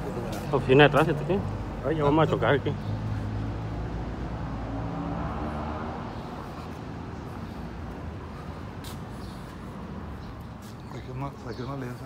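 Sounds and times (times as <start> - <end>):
street traffic rush: 0.0 - 12.0.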